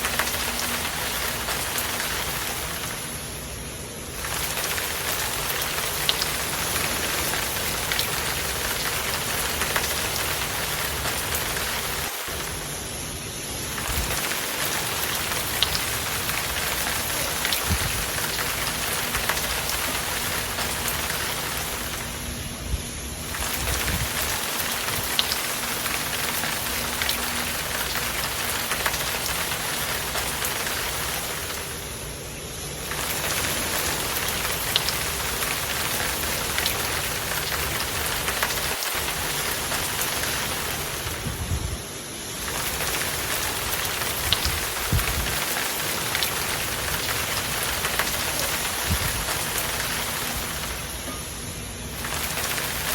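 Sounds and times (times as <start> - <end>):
hard rain falling: 0.0 - 52.9.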